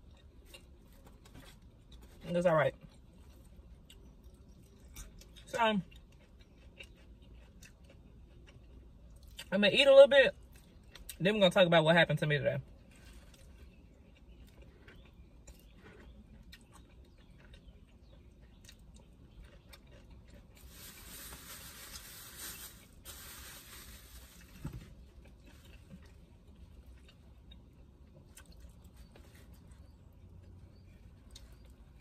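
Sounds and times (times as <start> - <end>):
faint chewing: 0.0 - 9.5, 10.3 - 11.2, 12.6 - 22.2, 24.1 - 32.0.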